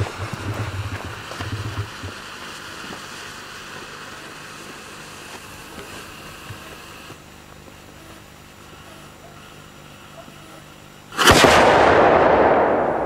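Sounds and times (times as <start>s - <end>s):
firework hissing: 0.0s - 7.2s, 8.0s - 13.0s
faint crackles: 0.0s - 11.3s.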